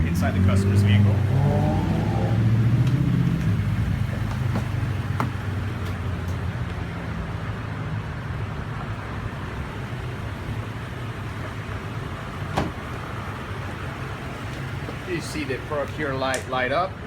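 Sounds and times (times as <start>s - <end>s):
vehicle engine humming: 0.0s - 16.2s.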